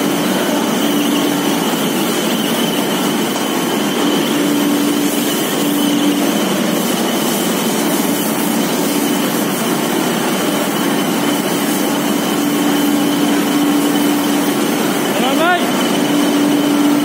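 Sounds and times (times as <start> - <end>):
machine and blower noise: 0.0 - 17.0.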